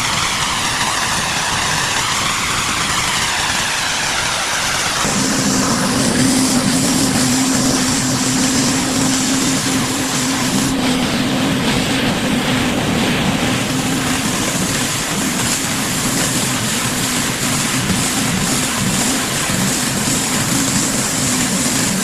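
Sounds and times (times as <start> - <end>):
pressure washer pump hum: 0.0 - 22.0
water spraying concrete: 0.0 - 22.0.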